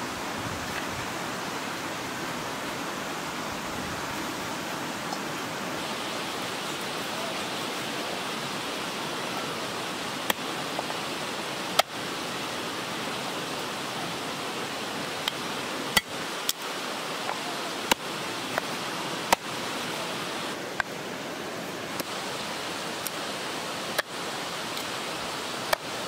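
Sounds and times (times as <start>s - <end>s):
steady rushing hiss: 0.0s - 26.0s.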